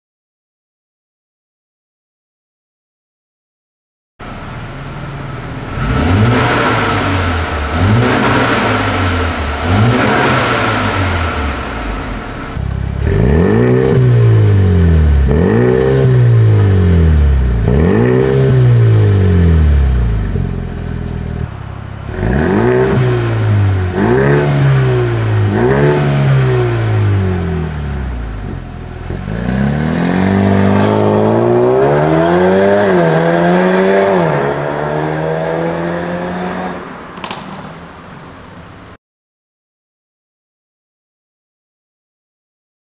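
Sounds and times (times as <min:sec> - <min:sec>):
car engine revving: 0:04.2 - 0:39.0
car accelerating away: 0:04.3 - 0:39.0.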